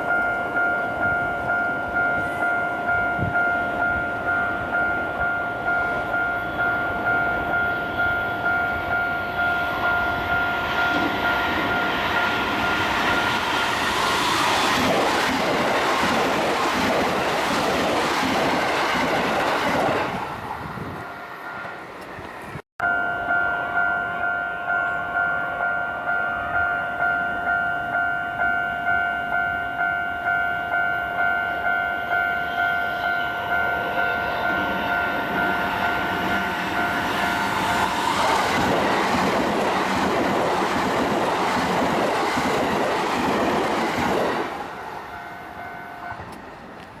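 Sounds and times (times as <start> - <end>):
level-crossing alarm ringing: 0.0 - 17.6, 22.8 - 42.6, 43.7 - 46.3
electric train passing: 0.0 - 47.0.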